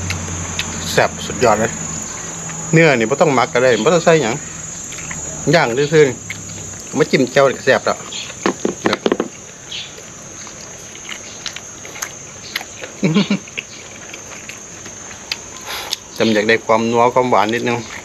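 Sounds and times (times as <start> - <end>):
man chewing: 0.0 - 2.7, 4.4 - 16.2, 17.4 - 18.0
insect drone: 0.0 - 18.0.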